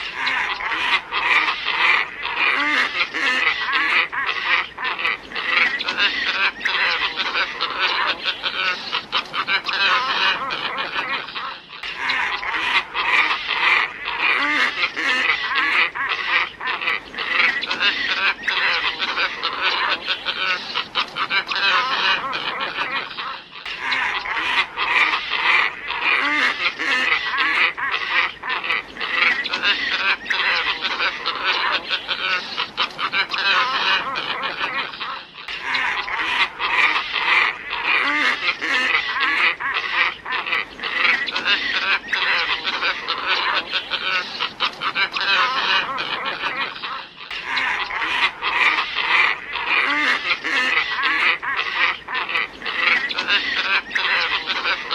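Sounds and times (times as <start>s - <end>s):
ibises calling: 0.0s - 54.9s.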